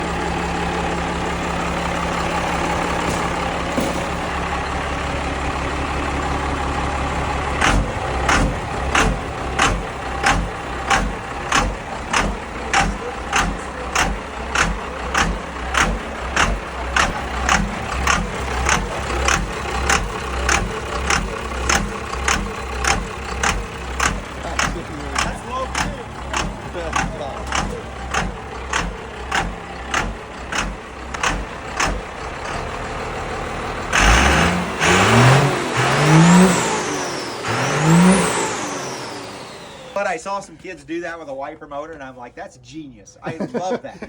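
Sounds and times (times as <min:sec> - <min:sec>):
small engine idling: 0:00.0 - 0:40.2.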